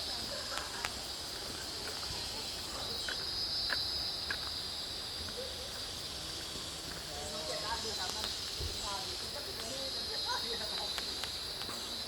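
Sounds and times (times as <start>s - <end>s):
insects buzzing chorus: 0.0s - 12.0s.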